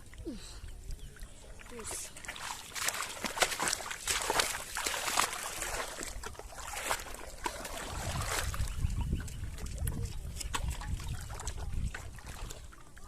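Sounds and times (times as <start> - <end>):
hands splashing shallow water: 1.2 - 13.0.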